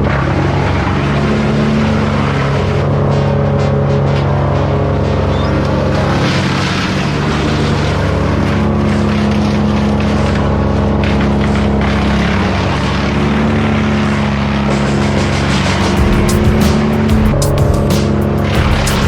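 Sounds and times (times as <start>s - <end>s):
steady engine drone: 0.0s - 19.0s.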